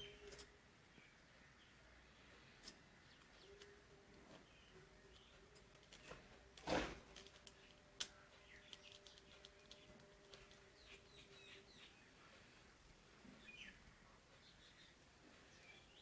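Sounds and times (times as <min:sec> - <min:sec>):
faint bird chirps: 0:00.0 - 0:06.3, 0:07.5 - 0:16.0.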